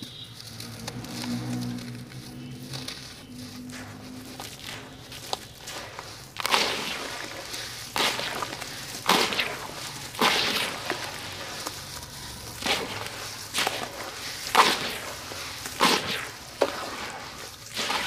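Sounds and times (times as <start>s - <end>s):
gritty crunching of crumbling cement: 0.0s - 18.0s.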